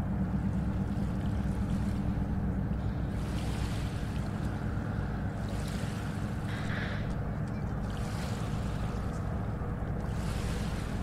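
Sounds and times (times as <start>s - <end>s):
low engine drone: 0.0s - 11.0s
water noise: 0.0s - 11.0s
wind: 0.0s - 11.0s.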